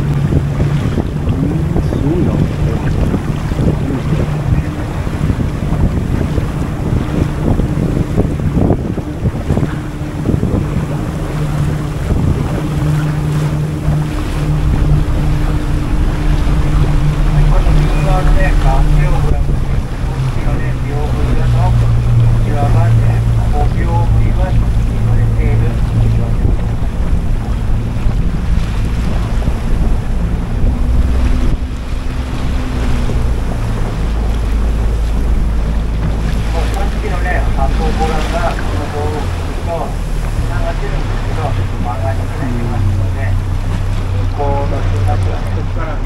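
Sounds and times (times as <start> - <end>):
boat engine running: 0.0 - 46.0
water rushing past hull: 0.0 - 46.0
waves washing: 0.0 - 46.0
wind buffeting microphone: 0.0 - 46.0.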